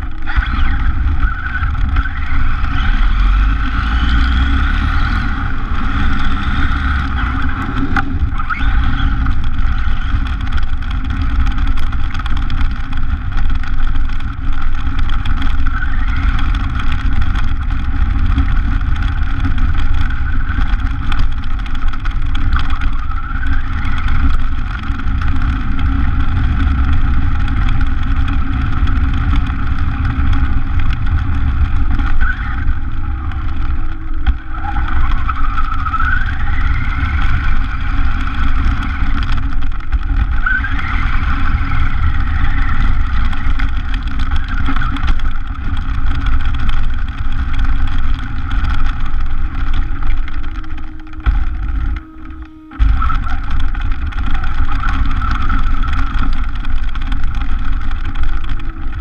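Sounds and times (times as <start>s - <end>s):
rc car motor whine: 0.0s - 59.0s
tyres rumbling on gravel: 0.0s - 59.0s.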